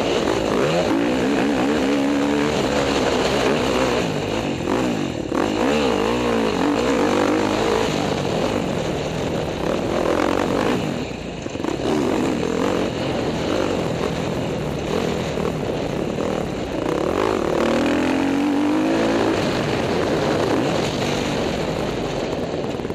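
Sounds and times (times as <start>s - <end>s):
motocross bike engines revving: 0.0s - 22.4s.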